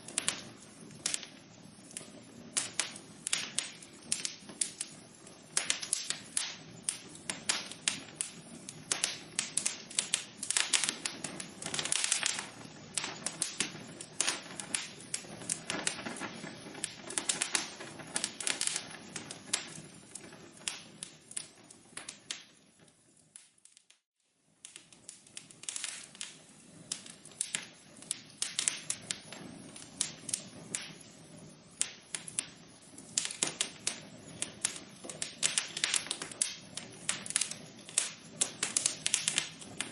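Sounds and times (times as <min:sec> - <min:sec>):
soft hiss: 0:00.0 - 0:39.9
wood fire crackling: 0:00.0 - 0:39.9.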